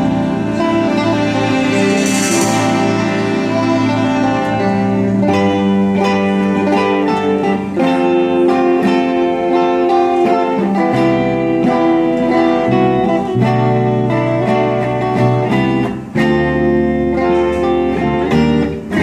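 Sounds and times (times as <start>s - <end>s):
guitars strumming: 0.0s - 19.0s
string section chords: 0.0s - 19.0s.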